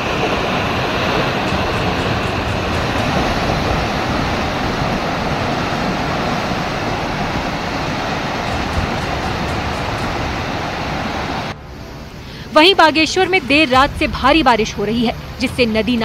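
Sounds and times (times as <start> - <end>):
landslide rumble: 0.0 - 16.0.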